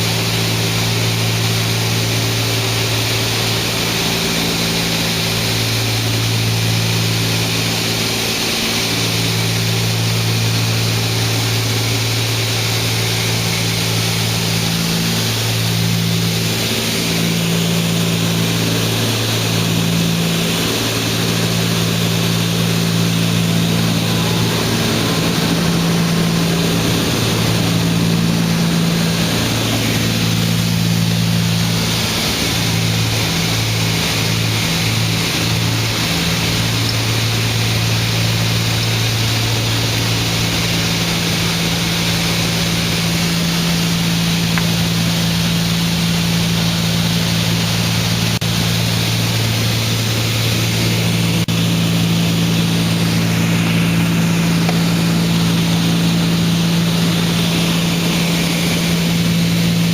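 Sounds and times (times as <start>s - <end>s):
propeller plane engines droning: 0.0s - 59.9s.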